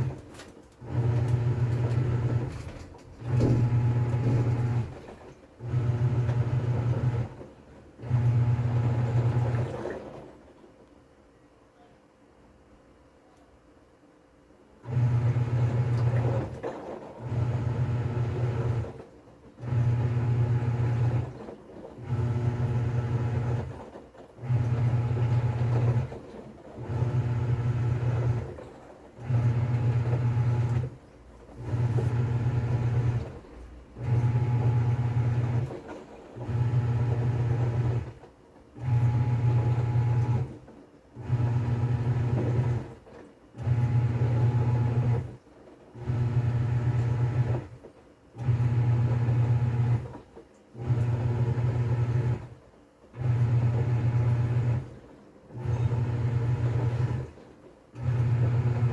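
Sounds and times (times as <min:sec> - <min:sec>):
washing machine motor agitating: 0:00.0 - 0:10.6, 0:14.8 - 0:47.8, 0:48.4 - 0:58.9.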